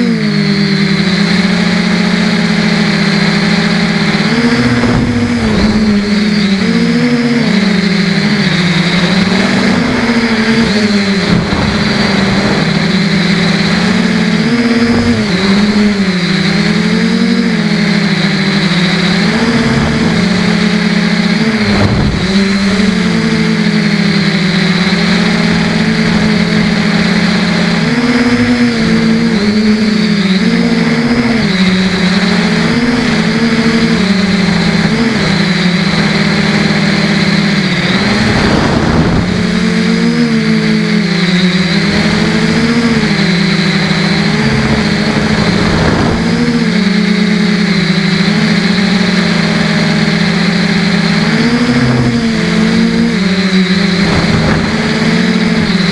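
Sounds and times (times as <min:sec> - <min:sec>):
drone motors and propellers whining: 0:00.0 - 0:55.9.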